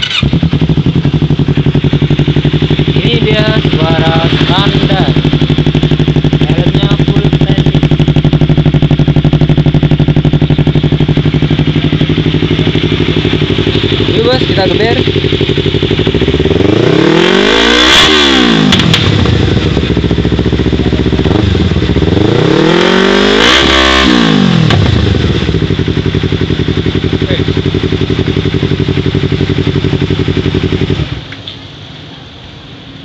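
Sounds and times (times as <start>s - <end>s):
motorcycle engine revving and idling: 0.0s - 33.0s.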